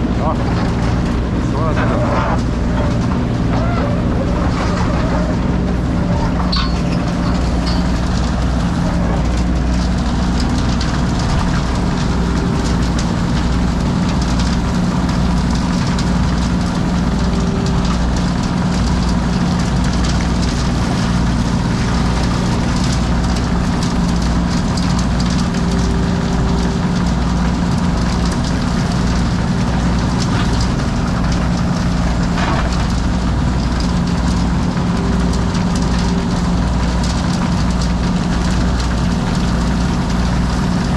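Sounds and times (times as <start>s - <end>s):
heavy drilling machine running: 0.0s - 40.9s.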